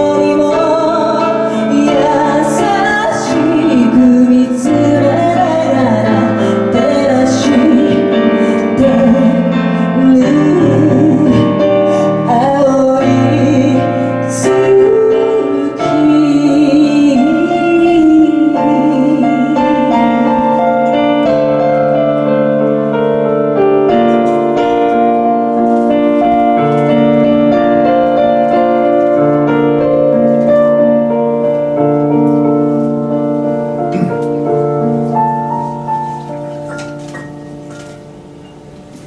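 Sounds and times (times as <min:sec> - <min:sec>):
piano chords: 0:00.0 - 0:39.0.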